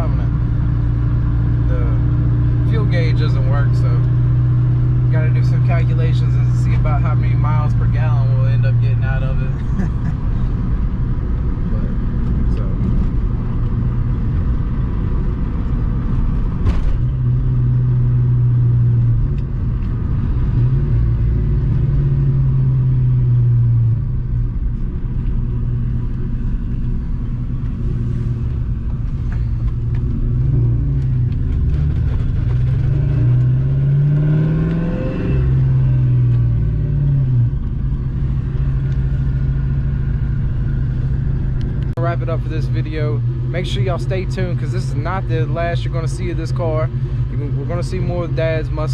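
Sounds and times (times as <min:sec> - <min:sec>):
car engine running: 0:00.0 - 0:48.9
road noise: 0:00.0 - 0:48.9.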